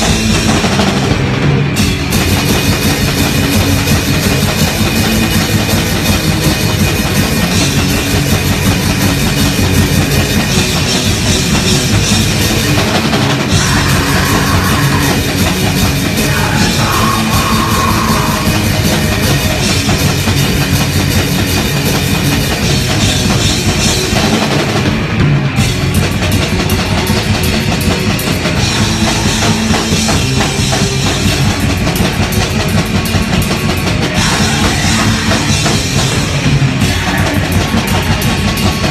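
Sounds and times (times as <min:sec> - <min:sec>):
drums pounding: 0:00.0 - 0:38.9
heavy rock band playing: 0:00.0 - 0:38.9.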